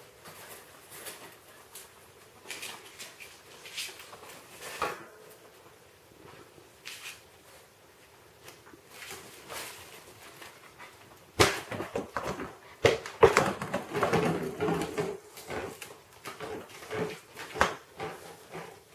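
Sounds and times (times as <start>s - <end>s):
animals scrabbling and scuffling: 0.0s - 5.6s, 6.2s - 18.9s.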